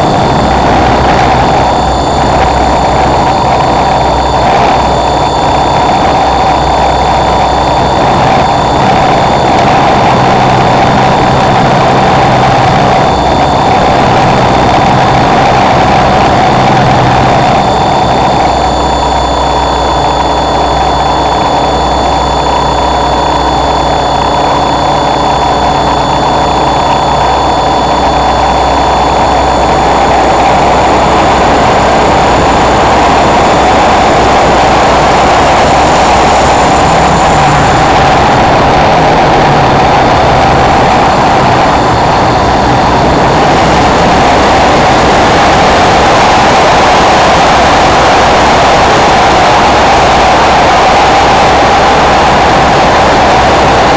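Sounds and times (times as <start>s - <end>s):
model helicopter motor and rotor whine: 0.0s - 53.9s
wind rumble on microphone: 0.0s - 53.9s.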